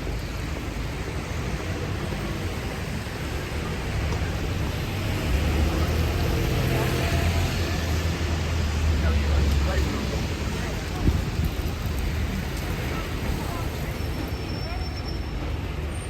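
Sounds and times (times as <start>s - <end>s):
vehicle engine rumble: 0.0s - 14.3s
rain falling on street: 0.0s - 16.0s
traffic noise: 0.0s - 16.0s.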